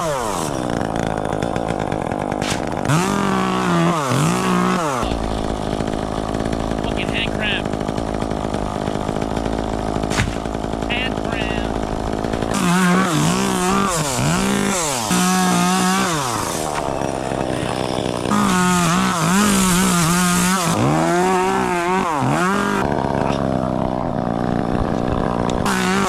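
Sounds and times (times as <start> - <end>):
chainsaw cutting wood: 0.0 - 26.0.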